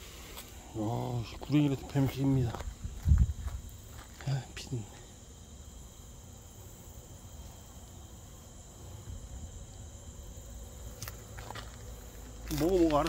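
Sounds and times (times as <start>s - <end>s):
crickets and insects chirring: 0.0s - 13.0s.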